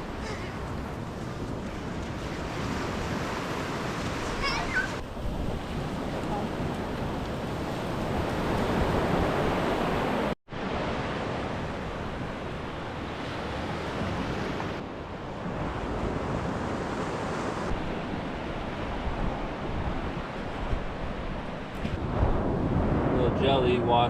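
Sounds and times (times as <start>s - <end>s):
wind buffeting microphone: 0.0s - 10.4s, 11.5s - 24.0s
ocean surf breaking: 0.0s - 24.0s.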